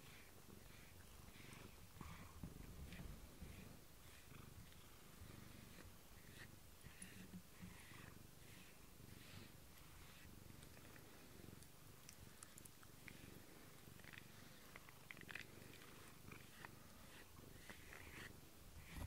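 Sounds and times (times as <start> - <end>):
cat purring faintly: 0.0 - 19.0.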